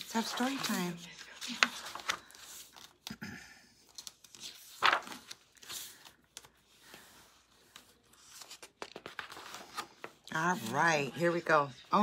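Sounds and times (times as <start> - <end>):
paper pages rustling and turning: 0.0 - 3.2, 3.8 - 12.0.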